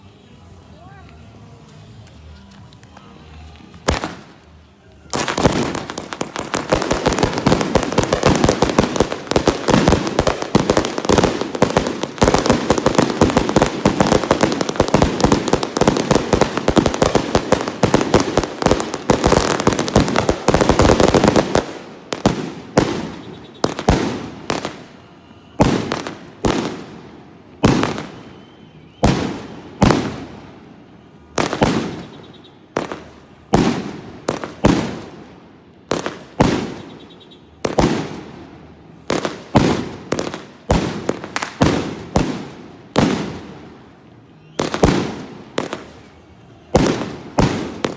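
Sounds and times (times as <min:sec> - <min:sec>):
loud firework reports with echo: 0:02.9 - 0:47.9
rapid crackling firework bangs: 0:05.2 - 0:25.0, 0:25.6 - 0:28.3, 0:29.0 - 0:30.5, 0:31.4 - 0:44.0, 0:44.6 - 0:46.1, 0:46.7 - 0:47.9.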